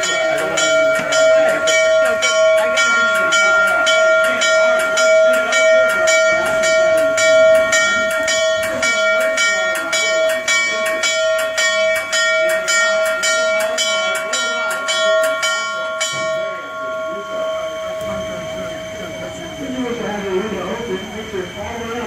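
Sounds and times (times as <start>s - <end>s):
steam locomotive bell ringing: 0.0s - 22.0s.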